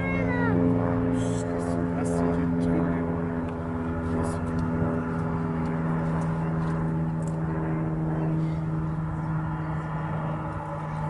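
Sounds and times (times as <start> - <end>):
aircraft engines droning: 0.0 - 11.0.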